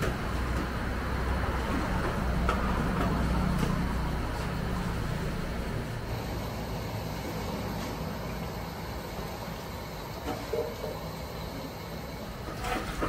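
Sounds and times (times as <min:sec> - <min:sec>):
street-stall ambience rumble: 0:00.0 - 0:13.0.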